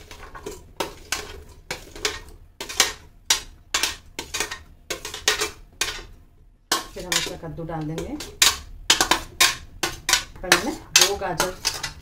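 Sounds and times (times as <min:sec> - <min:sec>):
spoon scraping metal tray: 0:00.0 - 0:12.0.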